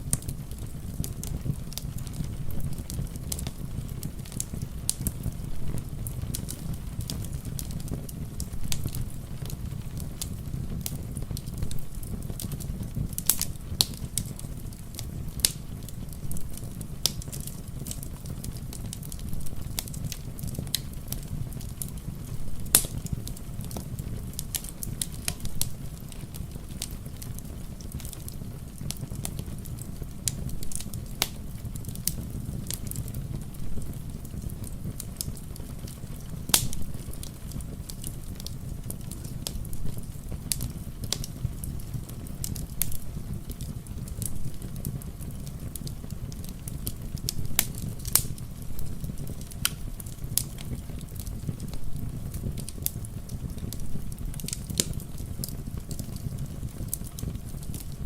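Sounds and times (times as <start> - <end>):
fire pops: 0.0 - 58.0
wood fire crackling: 0.0 - 58.0.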